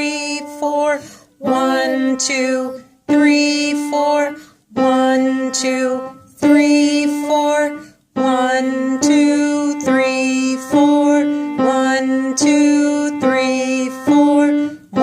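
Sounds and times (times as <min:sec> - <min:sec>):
keyboard playing simple melody: 0:01.4 - 0:15.0.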